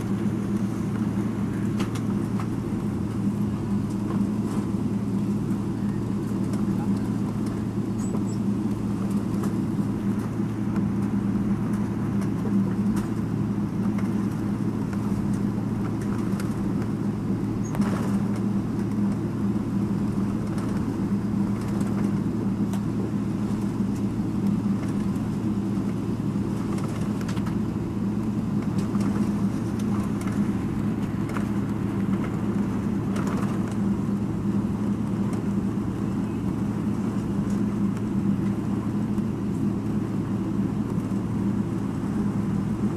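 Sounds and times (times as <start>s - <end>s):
jet engine and cabin hum: 0.0s - 42.9s.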